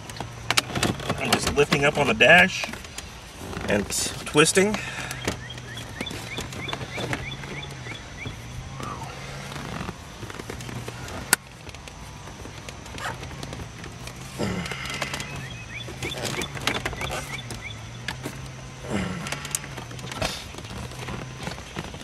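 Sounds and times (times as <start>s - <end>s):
plastic trim creaking and scraping: 0.0s - 22.0s
steady low hum: 0.0s - 22.0s.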